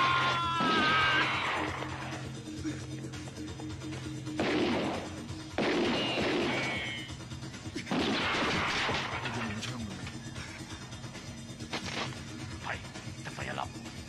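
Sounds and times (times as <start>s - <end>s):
tense background music: 0.0s - 14.0s.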